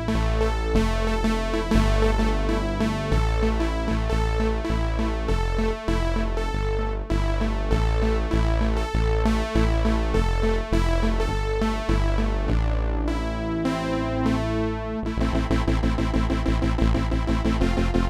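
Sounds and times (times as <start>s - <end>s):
synthesizer bass notes and chords: 0.0s - 18.0s.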